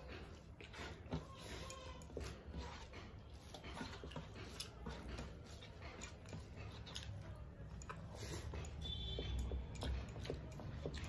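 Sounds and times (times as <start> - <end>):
chewing smacks: 0.0 - 11.0
fingers mixing food on metal plates: 0.0 - 11.0.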